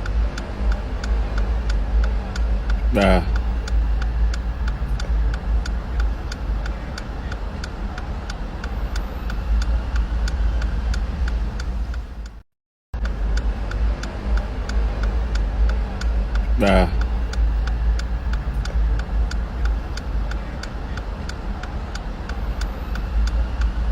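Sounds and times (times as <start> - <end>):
road traffic rumble: 0.0 - 12.4, 13.0 - 23.9
steady ticking: 0.0 - 12.4, 13.0 - 23.9.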